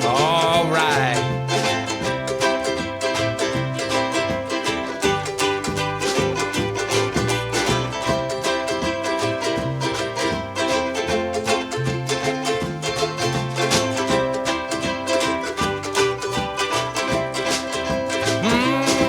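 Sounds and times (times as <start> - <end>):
bass line: 0.0 - 19.0
strummed ukuleles: 0.0 - 19.0.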